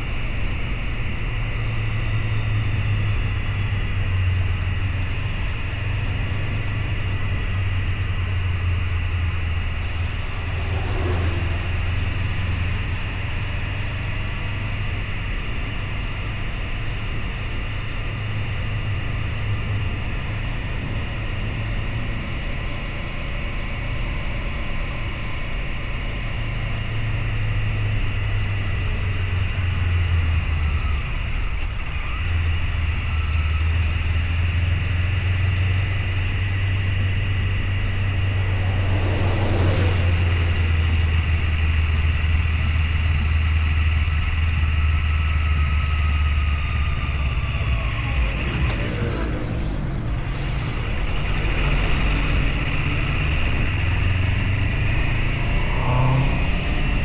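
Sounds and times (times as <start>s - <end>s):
motorcycle engine drone: 0.0s - 57.0s.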